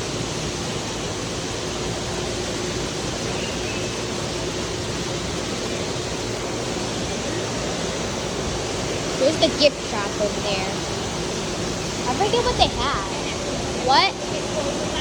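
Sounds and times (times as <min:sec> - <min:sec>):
faint steady hum: 0:00.0 - 0:15.0
steady rushing noise: 0:00.0 - 0:15.0.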